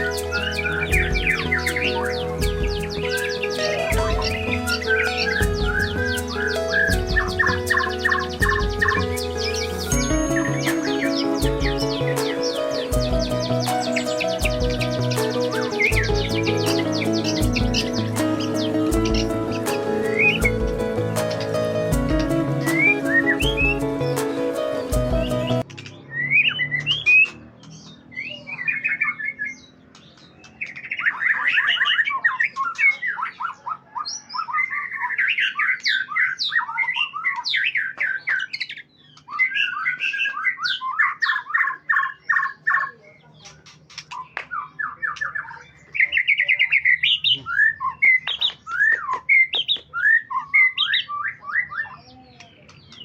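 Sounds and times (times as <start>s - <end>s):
songbird singing trills: 0.0s - 53.0s.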